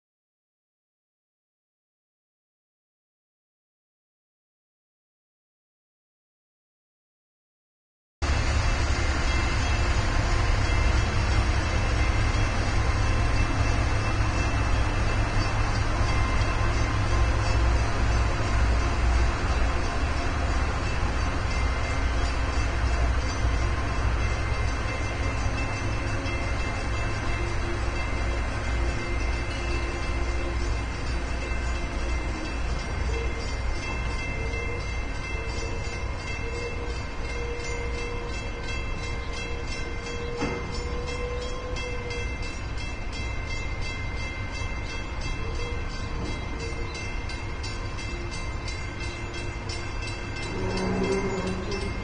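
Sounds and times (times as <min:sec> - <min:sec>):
ship engines rumbling: 0:08.2 - 0:52.0.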